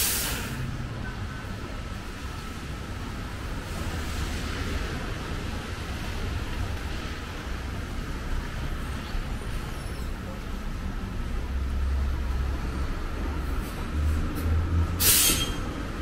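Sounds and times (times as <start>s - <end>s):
buses rumbling: 0.0s - 16.0s
wet street traffic hiss: 0.0s - 16.0s.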